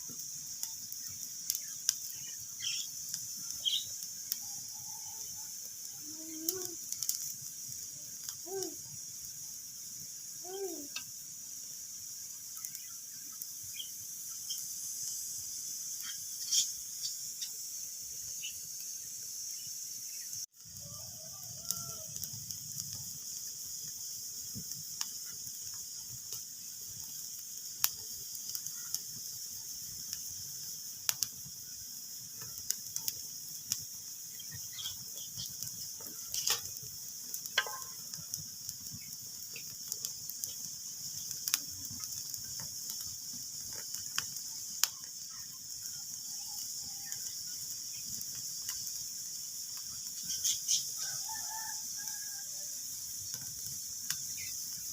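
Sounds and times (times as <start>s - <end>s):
wood fire crackling and popping: 0.0s - 19.0s, 20.4s - 52.4s, 53.0s - 54.9s.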